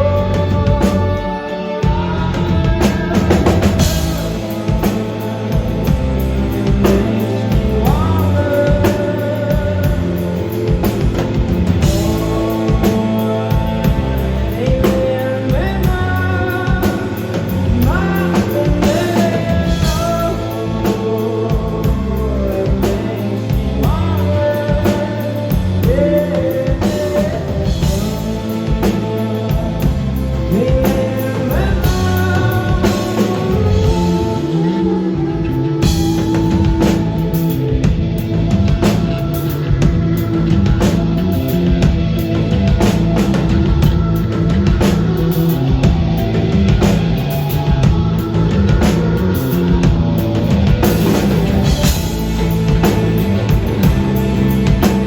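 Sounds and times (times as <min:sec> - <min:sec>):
bass guitar: 0:00.0 - 0:55.0
drum kit: 0:00.0 - 0:55.0
electric guitar: 0:00.0 - 0:55.0
man singing: 0:00.0 - 0:55.0.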